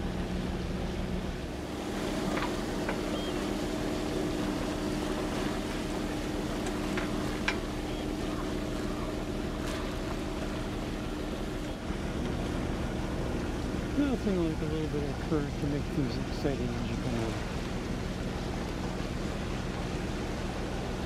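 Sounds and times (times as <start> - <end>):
boat engine humming: 0.0 - 21.0
water rushing along hull: 0.0 - 21.0.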